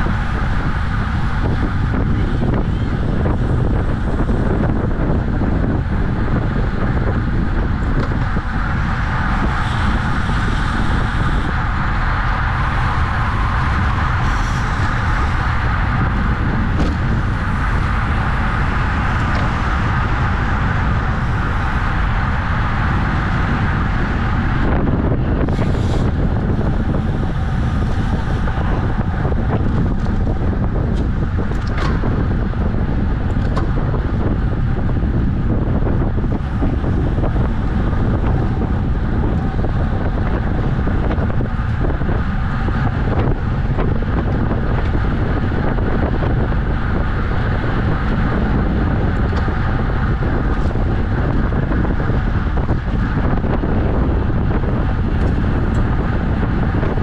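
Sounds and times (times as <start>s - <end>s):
low rumble: 0.0s - 57.0s
wind rushing over microphone: 0.0s - 57.0s.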